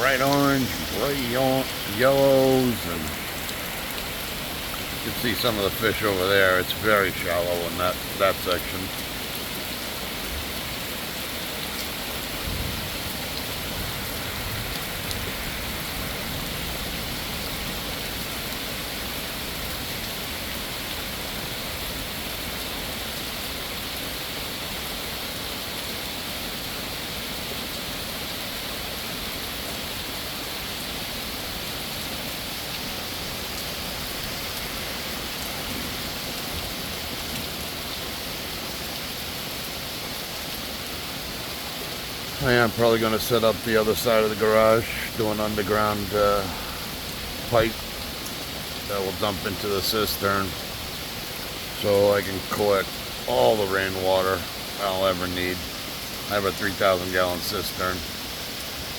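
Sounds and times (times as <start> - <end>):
heavy rain on pond: 0.0 - 58.9
waterfall running water: 0.0 - 58.9.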